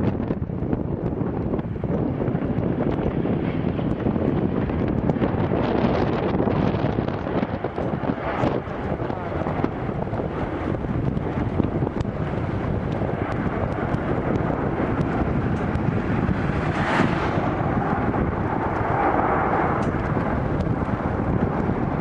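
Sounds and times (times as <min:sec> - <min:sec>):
jet engines rumbling: 0:00.0 - 0:22.0
wind buffeting microphone: 0:00.0 - 0:22.0.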